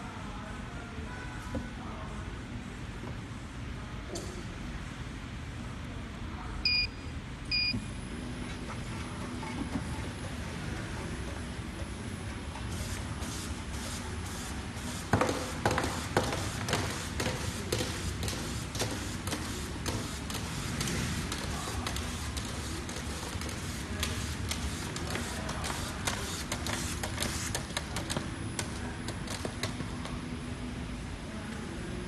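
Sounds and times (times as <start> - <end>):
conveyor and drive hum: 0.0 - 32.0.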